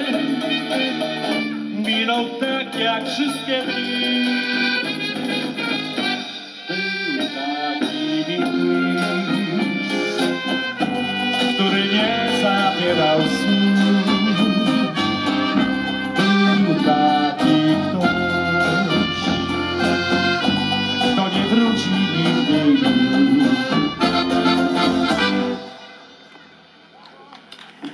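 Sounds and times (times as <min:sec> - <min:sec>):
accordion: 0:00.0 - 0:26.4
folk band playing: 0:00.0 - 0:26.7.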